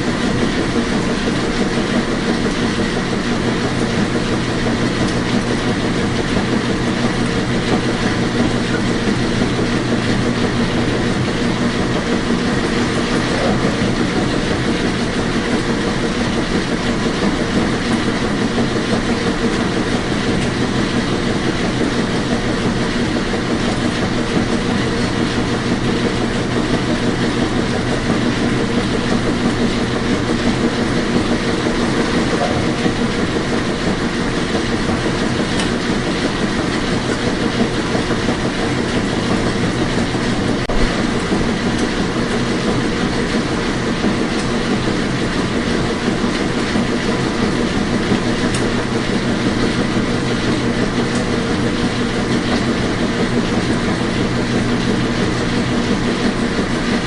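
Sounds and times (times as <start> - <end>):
low motor hum: 0.0 - 57.0
washing machine running: 0.0 - 57.0.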